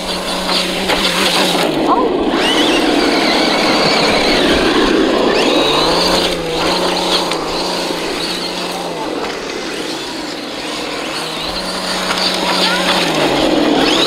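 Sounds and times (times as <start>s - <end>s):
toy truck motor whining: 0.0s - 14.0s.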